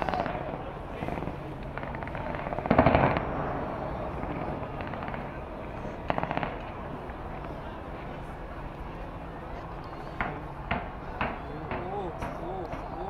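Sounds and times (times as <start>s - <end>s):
fireworks bangs and crackles: 0.0s - 9.2s, 9.9s - 13.0s.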